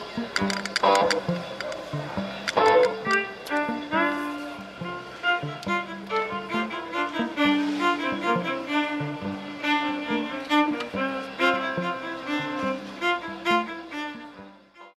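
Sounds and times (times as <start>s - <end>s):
busy string music: 0.0s - 14.9s.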